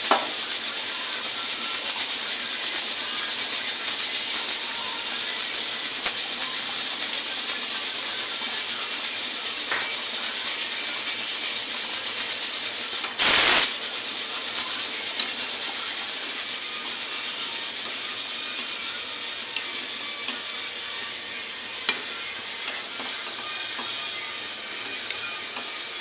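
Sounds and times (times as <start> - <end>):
food frying in hot oil: 0.0 - 26.0.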